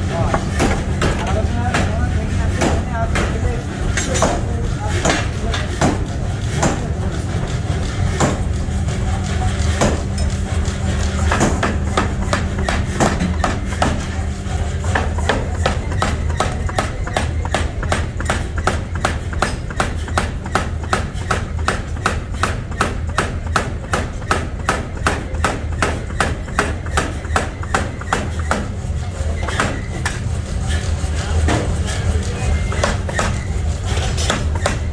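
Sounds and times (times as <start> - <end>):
factory machinery humming: 0.0 - 34.9
forging hammer striking steel: 0.0 - 34.9.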